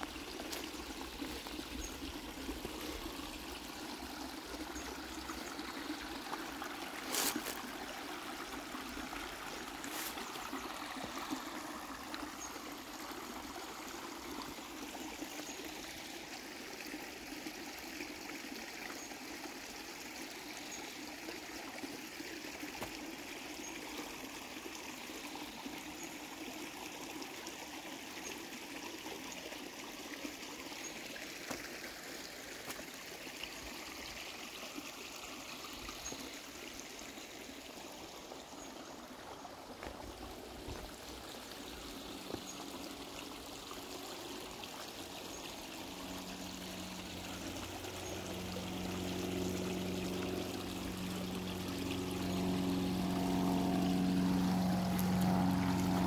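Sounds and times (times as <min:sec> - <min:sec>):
creek water babbling over rocks: 0:00.0 - 0:56.0.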